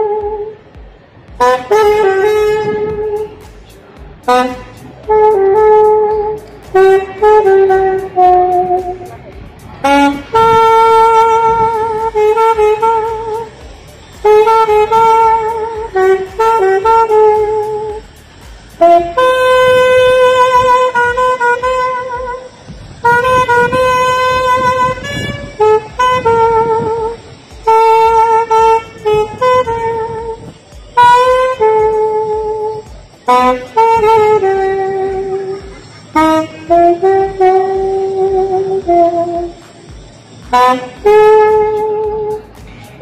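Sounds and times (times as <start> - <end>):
solo saxophone slow melody: 0.0 - 0.7, 1.3 - 43.0.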